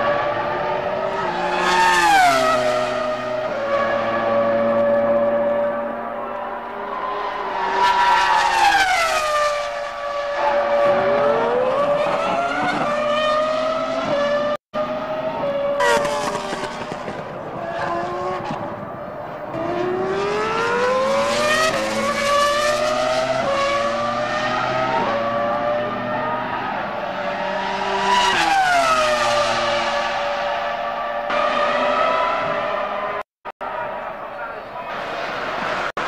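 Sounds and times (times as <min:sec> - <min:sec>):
racing car engine passing at high revs: 0:00.0 - 0:33.3.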